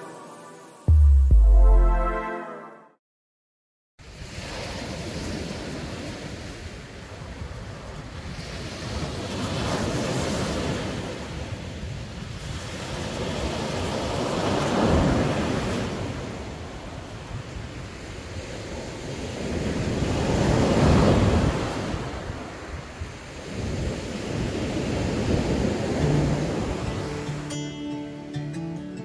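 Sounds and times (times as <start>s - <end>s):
sea waves breaking on beach: 4.0s - 27.5s.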